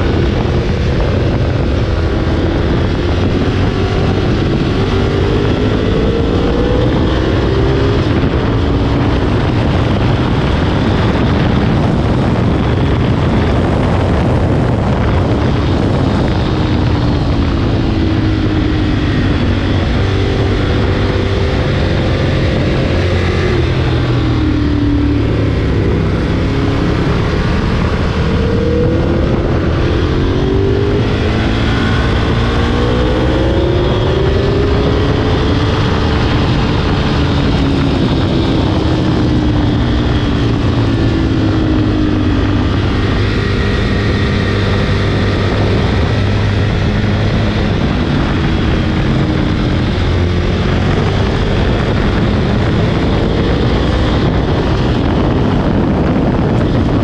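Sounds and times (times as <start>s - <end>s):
motorcycle engine revving: 0.0s - 57.0s
wind rush over microphone: 0.0s - 57.0s.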